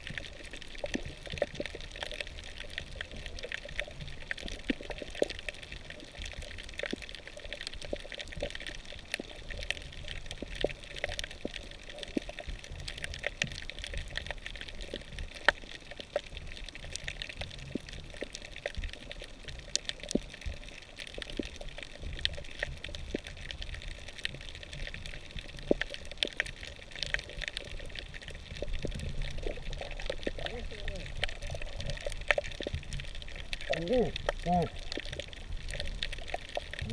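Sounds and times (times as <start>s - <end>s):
low rumble of moving water: 0.0s - 36.9s
underwater clicks and crackles: 0.0s - 36.9s.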